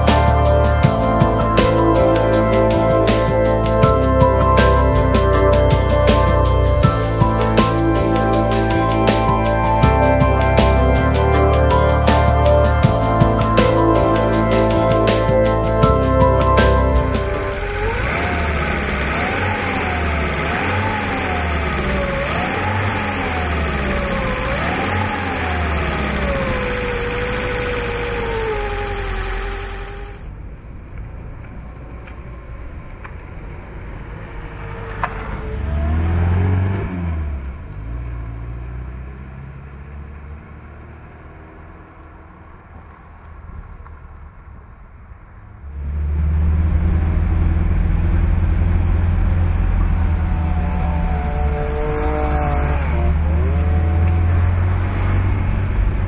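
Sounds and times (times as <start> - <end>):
car driving by: 0.0 - 56.0
car engine revving: 0.0 - 56.0
car interior engine noise: 0.0 - 56.0.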